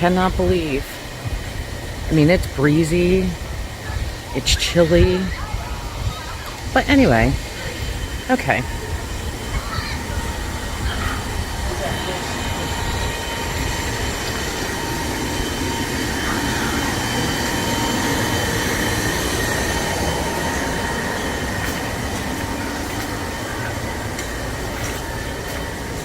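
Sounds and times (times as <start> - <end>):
faint constant whine: 0.0 - 26.0
wind gusting across microphone: 0.0 - 26.0.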